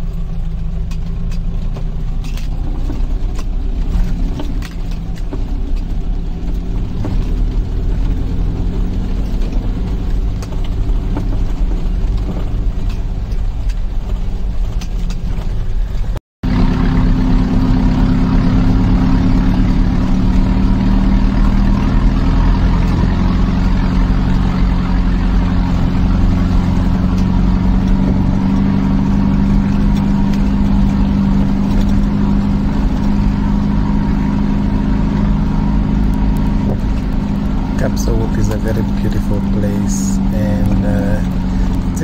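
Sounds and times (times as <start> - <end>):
jeep engine running: 0.0 - 42.0
road and body noise: 0.0 - 42.0.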